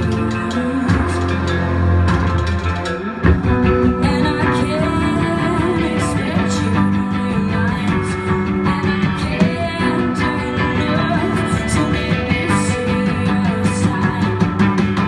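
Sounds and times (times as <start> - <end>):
person singing: 0.0 - 3.0, 3.8 - 15.0
bass guitar: 0.0 - 15.0
drums: 0.0 - 15.0
electric guitar: 0.0 - 15.0
keyboard: 0.0 - 15.0.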